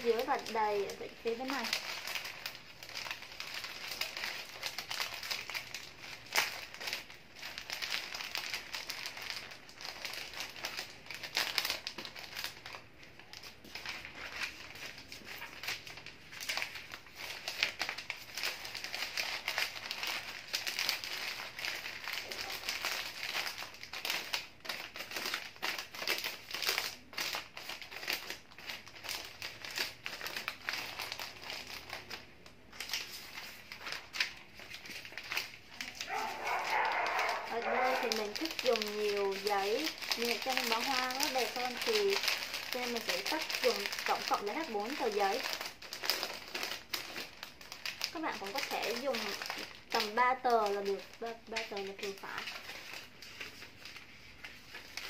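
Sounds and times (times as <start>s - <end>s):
paper crinkling and rustling: 0.0s - 55.0s.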